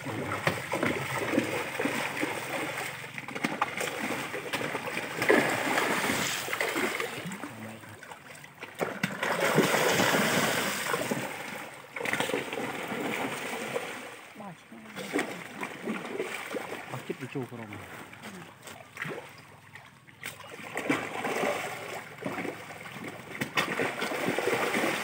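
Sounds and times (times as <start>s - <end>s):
fish splashing in water: 0.0s - 25.0s.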